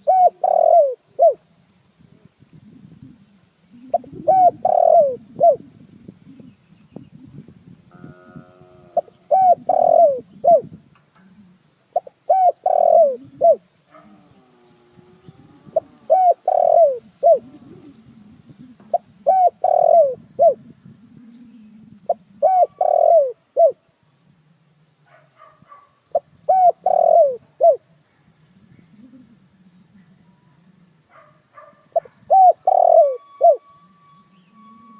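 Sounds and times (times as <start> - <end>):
dove cooing: 0.0 - 1.5, 2.1 - 23.9, 26.1 - 34.9.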